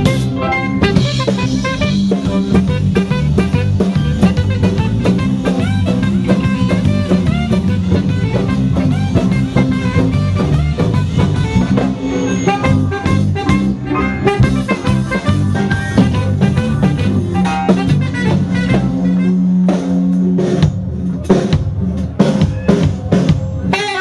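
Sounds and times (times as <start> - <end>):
saxophone lead: 0.0 - 20.2, 23.6 - 24.0
bass: 0.0 - 24.0
drum kit: 0.0 - 24.0
electric guitar: 0.0 - 24.0.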